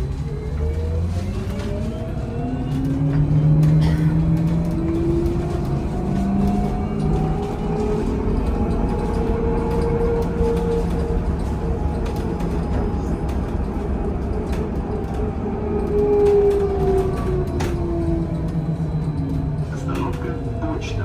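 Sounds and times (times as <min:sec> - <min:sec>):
road rumble: 0:00.0 - 0:21.0.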